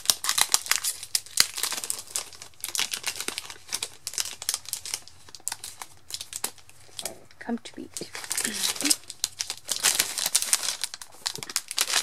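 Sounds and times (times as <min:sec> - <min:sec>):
plastic shrink-wrap crinkling: 0:00.0 - 0:12.0.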